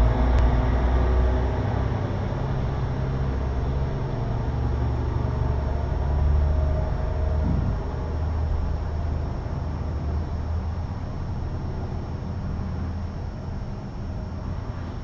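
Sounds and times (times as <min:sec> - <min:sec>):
machinery engine rumble: 0:00.0 - 0:15.0.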